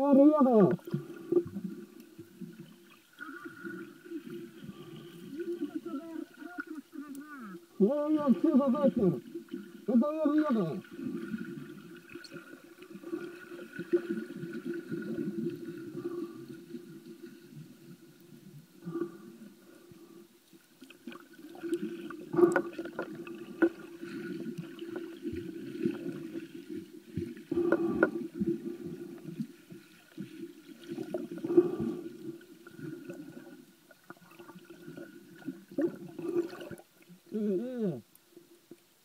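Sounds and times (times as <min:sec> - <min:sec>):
underwater gurgling and sloshing: 0:00.0 - 0:37.4.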